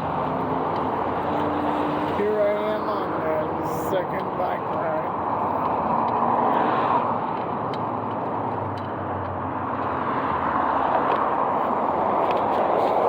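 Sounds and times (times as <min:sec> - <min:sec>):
passing vehicle engine hum: 0:00.0 - 0:13.0
rushing road and traffic noise: 0:00.0 - 0:13.0.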